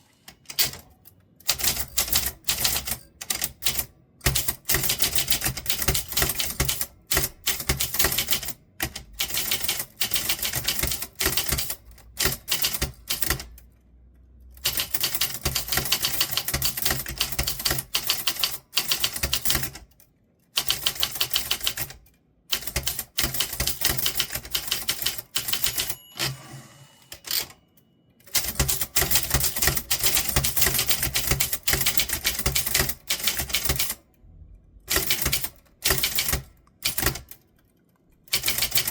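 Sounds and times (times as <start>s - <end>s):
fast typewriter typing: 0.4s - 13.6s, 14.5s - 26.4s, 27.2s - 27.5s, 28.2s - 34.0s, 34.9s - 37.6s, 38.2s - 38.9s.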